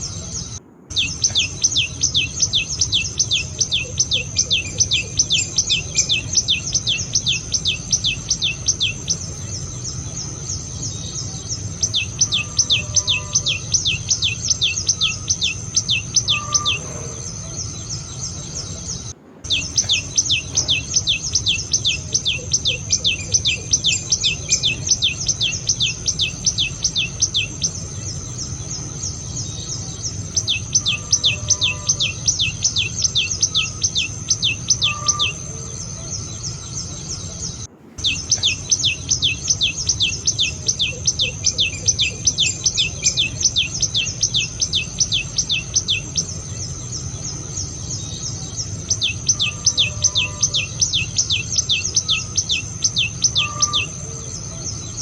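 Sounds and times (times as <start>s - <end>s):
bird singing sharp notes: 0.0s - 55.0s
high insect whine: 0.0s - 55.0s.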